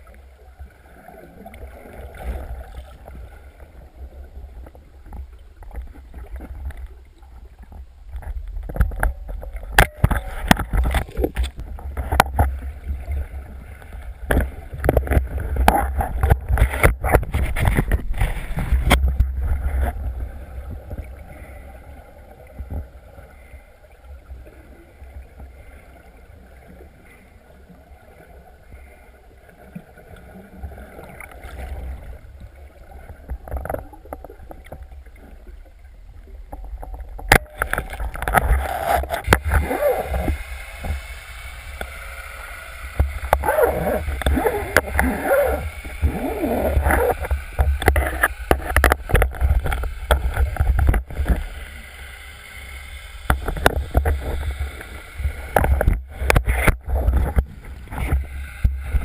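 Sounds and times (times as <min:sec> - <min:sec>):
water sloshing and gurgling: 0:00.0 - 0:59.0.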